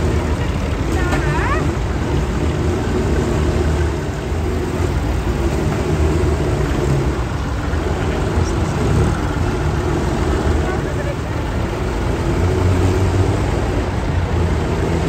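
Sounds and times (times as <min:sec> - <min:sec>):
tractor engines running: 0:00.0 - 0:15.0.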